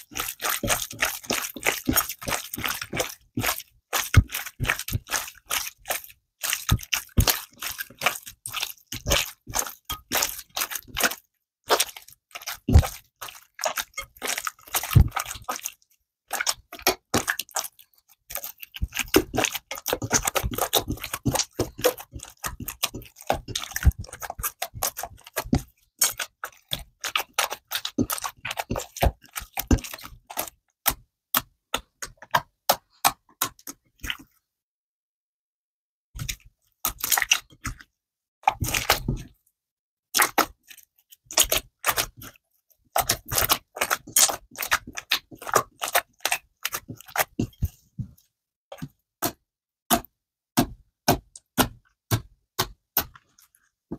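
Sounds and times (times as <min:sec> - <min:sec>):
hands squelching slime: 0:00.0 - 0:34.4, 0:36.2 - 0:39.4, 0:40.1 - 0:53.9.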